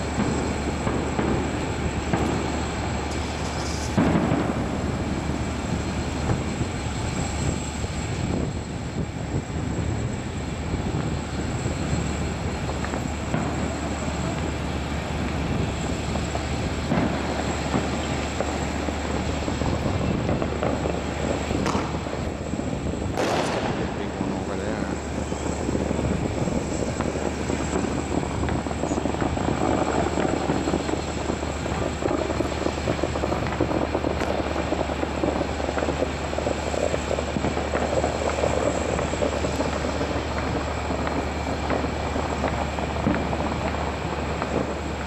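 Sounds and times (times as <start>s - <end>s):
steady rumbling noise: 0.0s - 45.0s.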